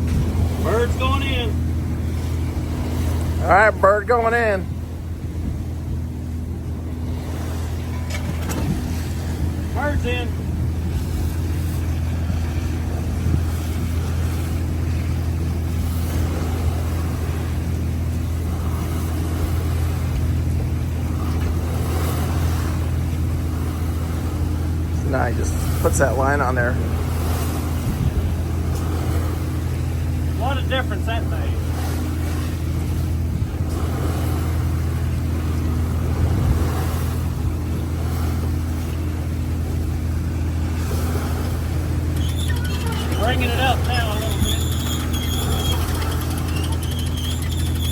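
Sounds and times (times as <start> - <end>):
boat engine droning: 0.0 - 47.9
sea and wind noise: 0.0 - 47.9
water noise: 0.0 - 47.9.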